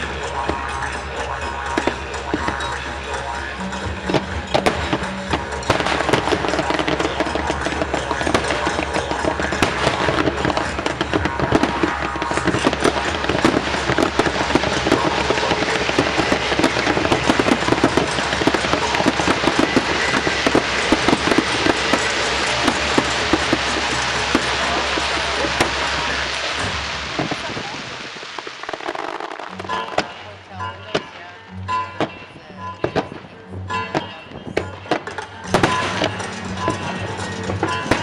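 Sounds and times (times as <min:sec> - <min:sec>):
fireworks exploding and crackling: 0:00.0 - 0:38.0
music playing: 0:00.0 - 0:38.0.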